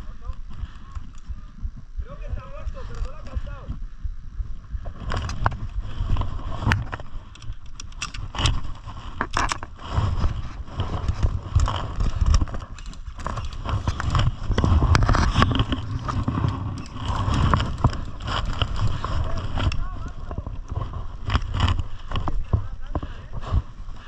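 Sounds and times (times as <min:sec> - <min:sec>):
low microphone rumble: 0:00.0 - 0:24.0.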